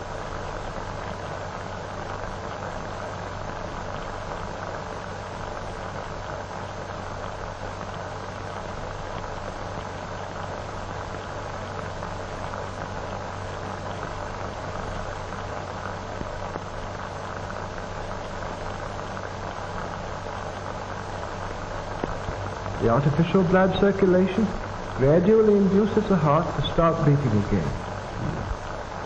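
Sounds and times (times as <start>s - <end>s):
film soundtrack hiss and hum: 0.0s - 29.0s.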